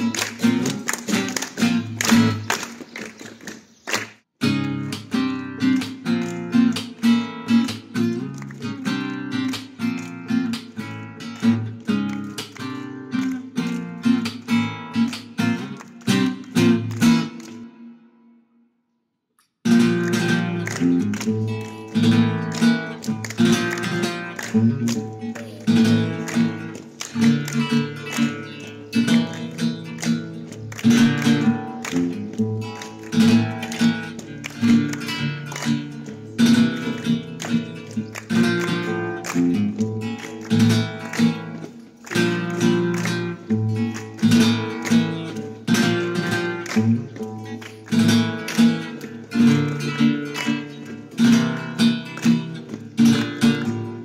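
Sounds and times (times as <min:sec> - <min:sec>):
flamenco acoustic guitar: 0:00.0 - 0:18.4, 0:19.6 - 0:54.0.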